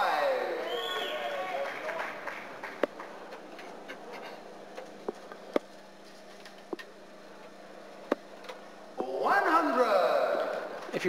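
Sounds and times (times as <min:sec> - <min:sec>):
faint hall hum: 0:00.0 - 0:11.0.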